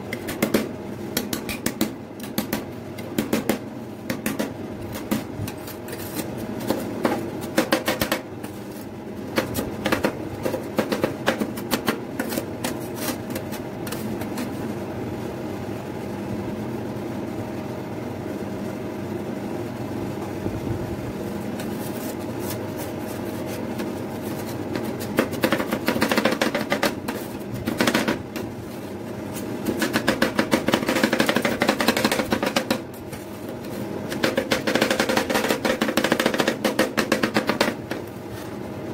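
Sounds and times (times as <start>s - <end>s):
steady hum: 0.0s - 38.9s.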